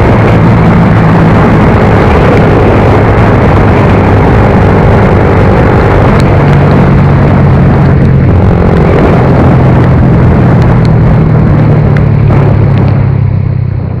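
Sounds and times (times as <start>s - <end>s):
loud wind rush: 0.0s - 14.0s
motorcycle engine running: 0.0s - 14.0s.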